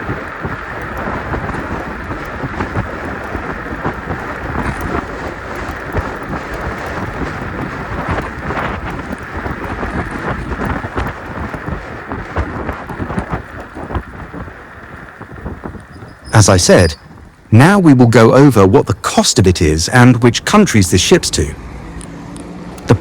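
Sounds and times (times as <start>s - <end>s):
wind buffeting microphone: 0.0s - 22.3s.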